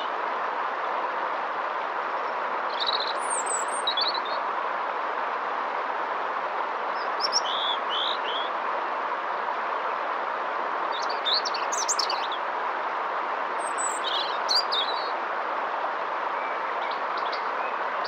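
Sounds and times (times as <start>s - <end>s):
songbirds chirping: 0.0s - 8.7s, 10.2s - 18.0s
river water rushing: 0.0s - 18.0s.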